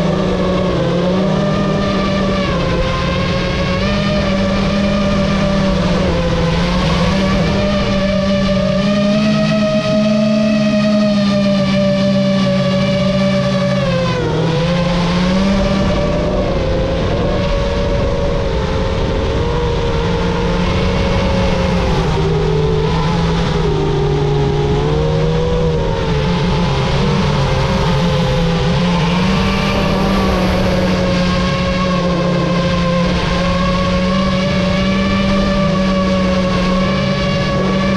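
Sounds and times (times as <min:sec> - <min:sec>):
quadcopter motors whining: 0:00.0 - 0:37.9.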